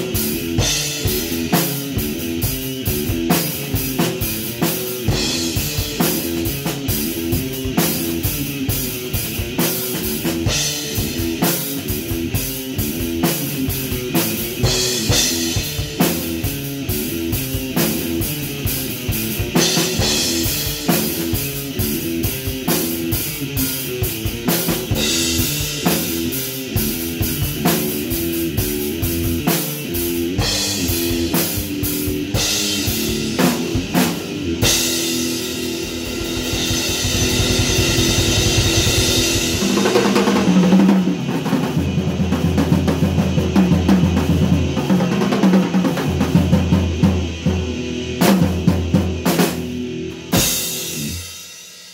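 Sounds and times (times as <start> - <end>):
electric guitar rock riff: 0.0 - 51.4
drum kit beat: 0.0 - 51.9.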